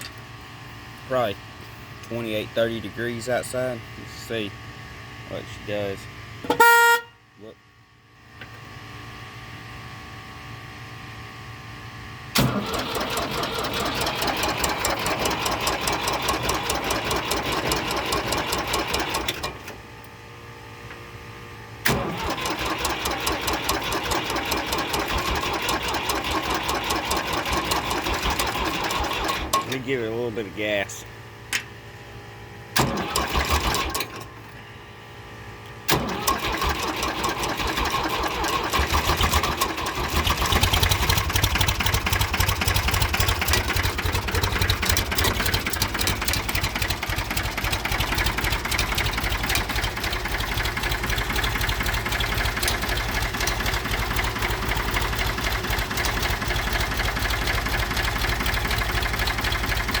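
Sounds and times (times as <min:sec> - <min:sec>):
diesel engine starting and running: 0:08.3 - 1:00.0.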